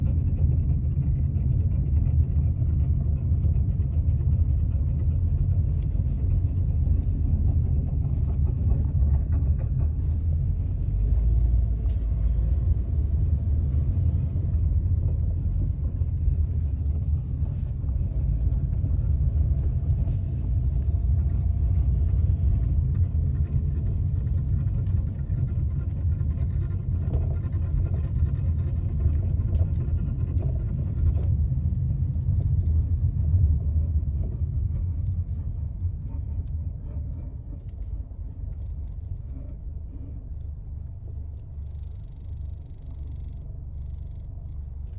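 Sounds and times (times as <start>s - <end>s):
car road and drivetrain rumble: 0.0s - 44.9s.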